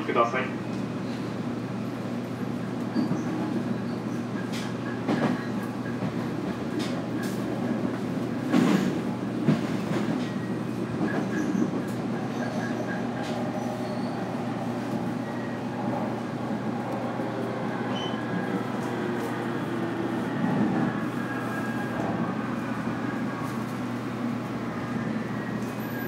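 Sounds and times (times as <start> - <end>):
train hum and rumble: 0.0 - 26.0.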